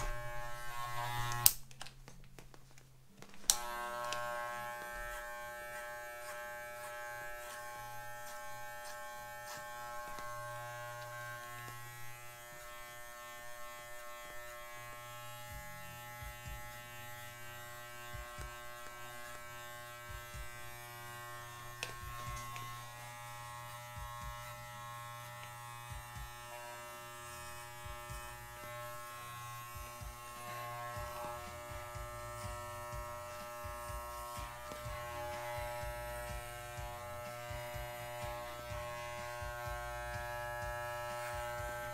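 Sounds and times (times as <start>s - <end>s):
electric pet clipper buzzing: 0.0s - 1.6s, 3.5s - 41.9s.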